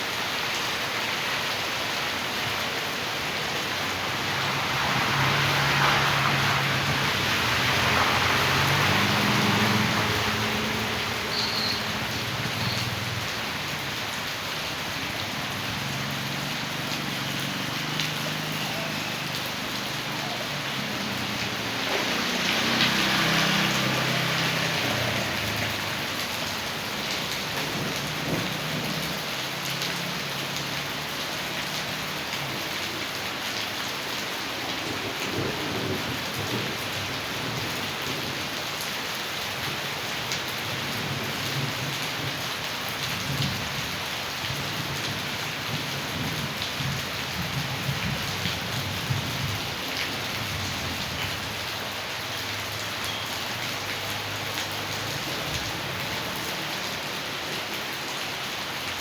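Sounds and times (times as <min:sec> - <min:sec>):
heavy rain pouring: 0:00.0 - 0:59.0
rainwater runoff rushing: 0:00.0 - 0:59.0.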